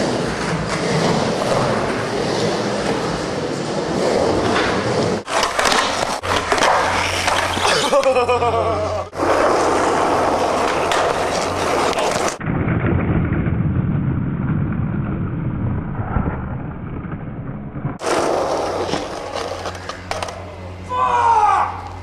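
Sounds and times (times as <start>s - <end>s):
skateboard wheels rolling on concrete: 0.0s - 20.9s.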